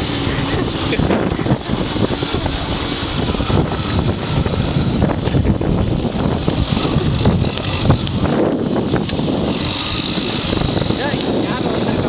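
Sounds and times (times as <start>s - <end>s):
two-stroke moped engine: 0.0s - 12.0s
wind buffeting microphone: 0.0s - 12.0s.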